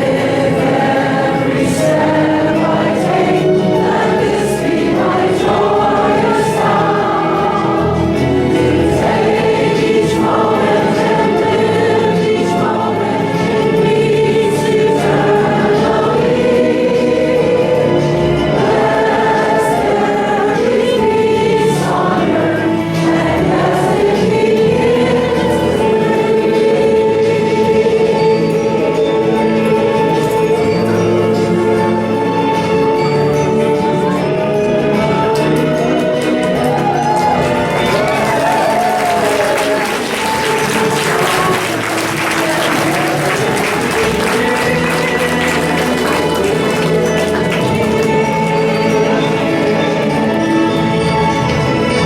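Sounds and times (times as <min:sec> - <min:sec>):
congregation singing: 0:00.0 - 0:52.0.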